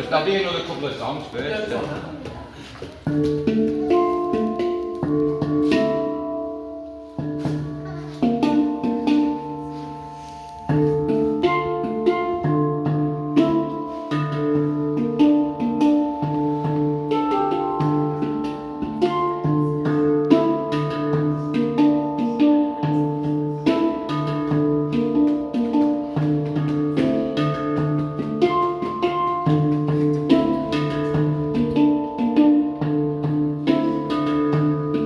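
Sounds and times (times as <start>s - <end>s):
handpan melody: 3.0s - 35.0s.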